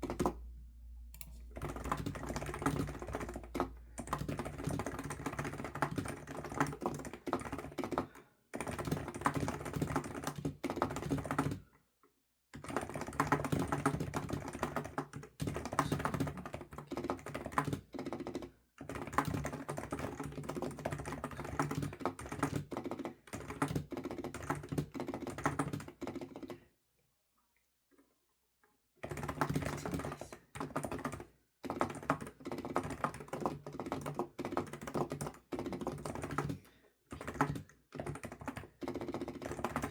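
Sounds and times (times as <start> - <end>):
fast typing on computer keyboard: 0.0 - 0.4, 1.2 - 11.7, 12.6 - 26.6, 29.0 - 39.9.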